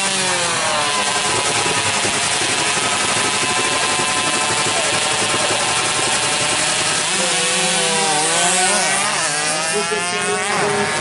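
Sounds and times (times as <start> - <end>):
motorcycle engines revving high: 0.0 - 11.0.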